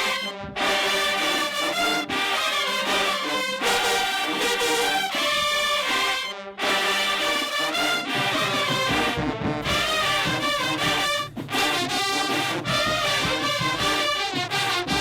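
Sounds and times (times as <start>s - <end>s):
marching band brass playing: 0.0s - 15.0s.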